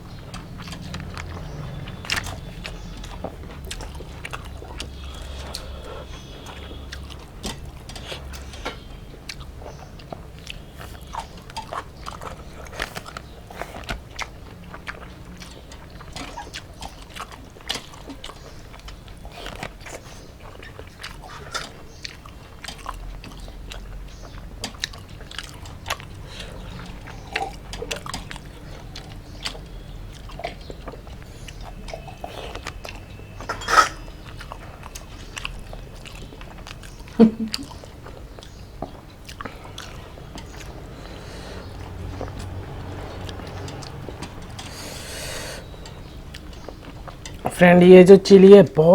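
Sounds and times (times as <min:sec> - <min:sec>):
people chewing food: 0:00.0 - 0:48.9.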